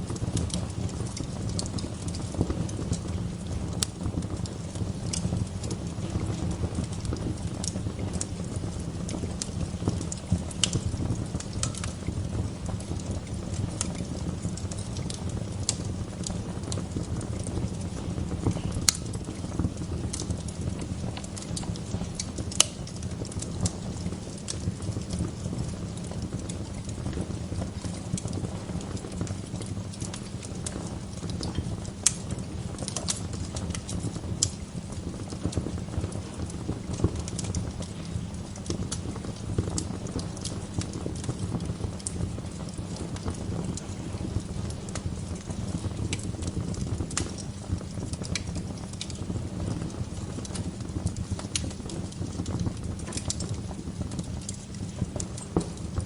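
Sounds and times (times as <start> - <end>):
fire popping: 0.0 - 56.0
low rumble of burning wood: 0.0 - 56.0.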